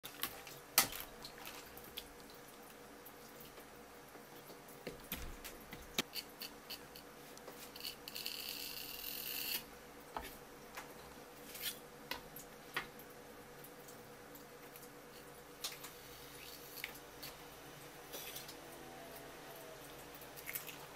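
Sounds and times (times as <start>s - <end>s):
faint steady hum: 0.1s - 20.9s.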